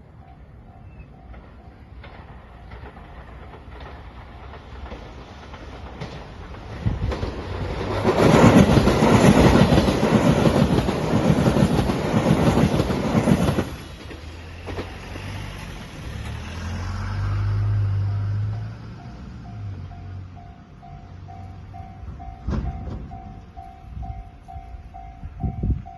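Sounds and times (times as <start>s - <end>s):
train wheels clattering: 0.2s - 25.1s.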